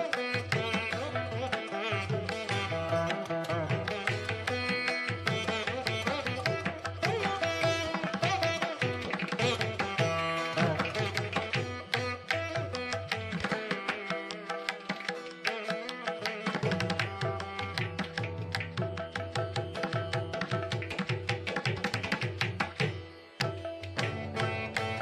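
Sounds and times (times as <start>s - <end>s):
instrumental music with drums: 0.0s - 25.0s.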